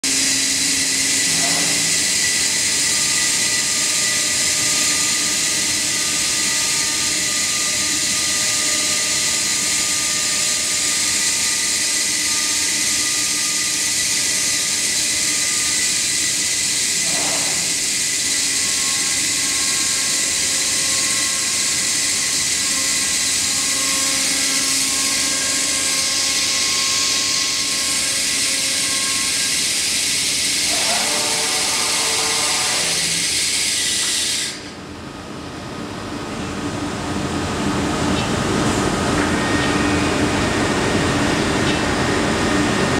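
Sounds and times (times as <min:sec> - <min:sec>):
cnc router spindle hiss and whine: 0:00.1 - 0:42.9.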